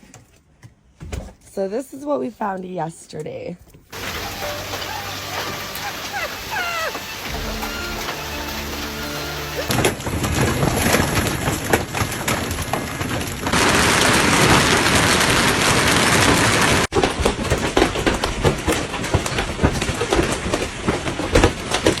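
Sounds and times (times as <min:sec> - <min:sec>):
hailstones pelting hard surfaces: 0:04.0 - 0:22.0.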